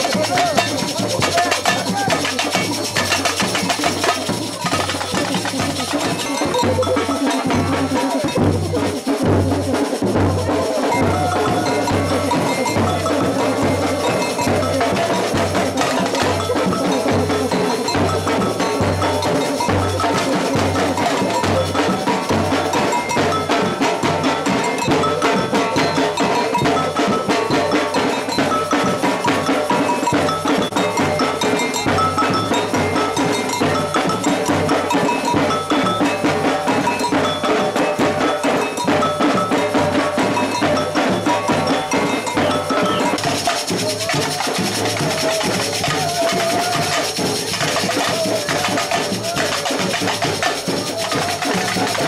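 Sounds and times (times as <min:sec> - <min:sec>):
cowbell pattern: 0:00.0 - 0:52.0
samba drum band: 0:00.0 - 0:52.0.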